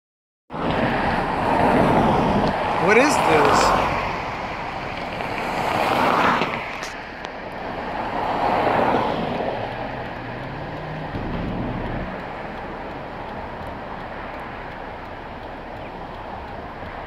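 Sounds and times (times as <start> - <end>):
vehicles passing: 0.5 - 17.0.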